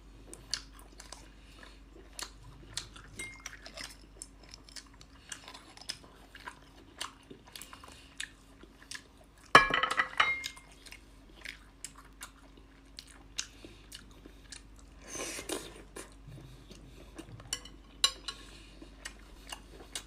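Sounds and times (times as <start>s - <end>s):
chewing with crisp clicks: 0.2s - 9.5s, 10.4s - 20.0s.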